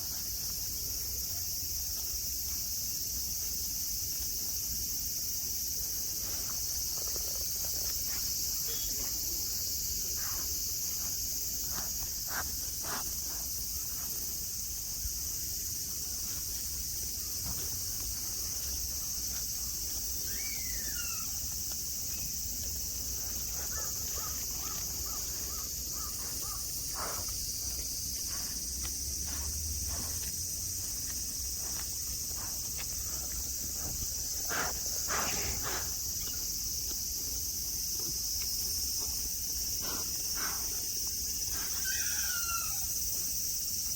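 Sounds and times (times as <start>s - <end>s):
cicadas droning: 0.0s - 43.9s.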